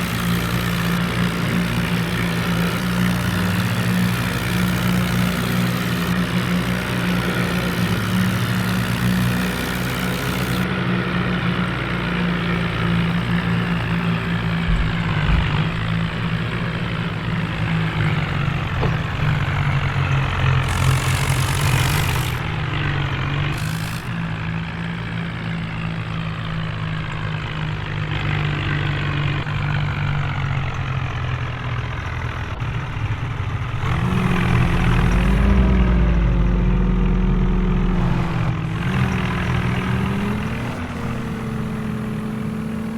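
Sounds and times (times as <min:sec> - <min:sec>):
tractor diesel engines running: 0:00.0 - 0:42.9.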